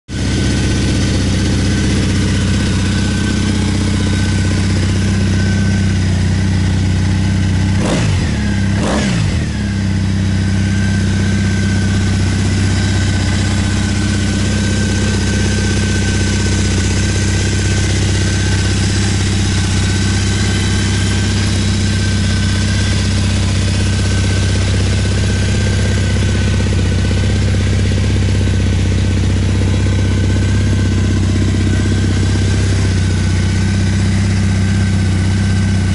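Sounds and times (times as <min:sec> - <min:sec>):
motorcycle engine idling: 0:00.1 - 0:35.9.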